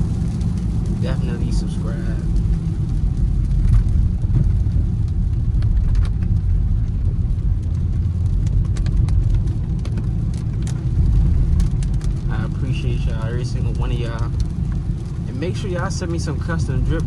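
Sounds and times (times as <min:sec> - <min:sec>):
car cabin road rumble: 0:00.0 - 0:17.0
raindrops ticking on windshield: 0:00.0 - 0:17.0.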